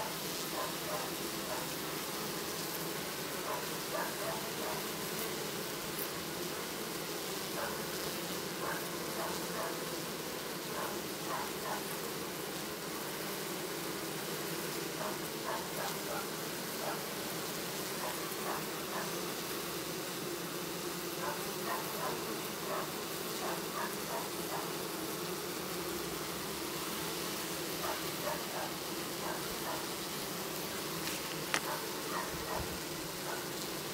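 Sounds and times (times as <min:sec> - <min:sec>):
honeybees buzzing: 0:00.0 - 0:33.9.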